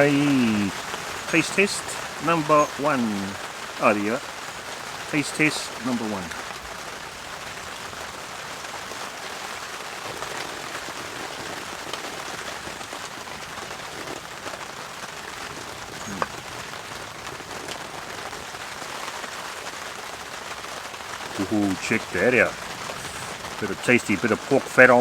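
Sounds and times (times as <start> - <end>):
rain on a tarp: 0.0 - 25.0.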